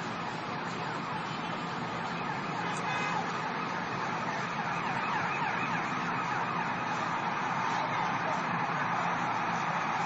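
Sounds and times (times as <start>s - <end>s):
city traffic noise: 0.0s - 10.0s
sirens wailing: 0.0s - 10.0s.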